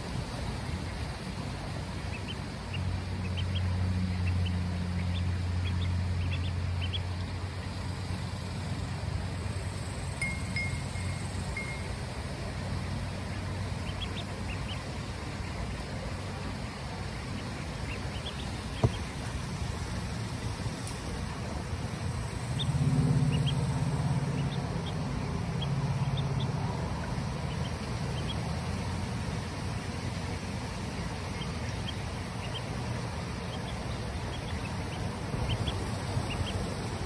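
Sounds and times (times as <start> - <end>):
ducklings peeping: 0.0 - 37.0
low steady drone: 0.0 - 37.0.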